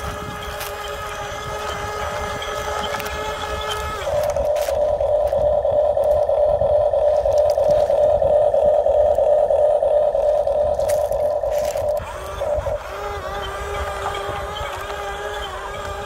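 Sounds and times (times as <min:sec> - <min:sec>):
electric motors whining: 0:00.0 - 0:16.0
loud steady buzz: 0:00.0 - 0:16.0.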